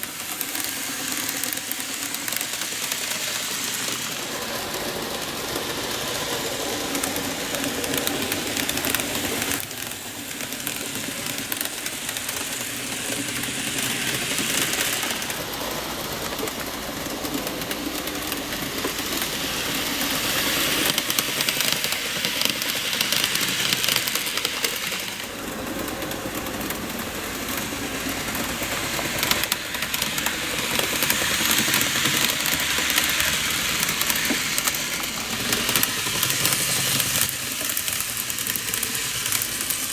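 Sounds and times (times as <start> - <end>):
model train wheels clicking: 0.0 - 39.9.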